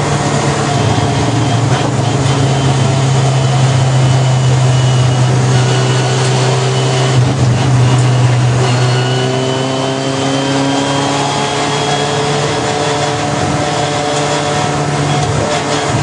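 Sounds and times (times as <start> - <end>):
low drone: 0.0 - 16.0
racing car engine revving: 0.0 - 16.0.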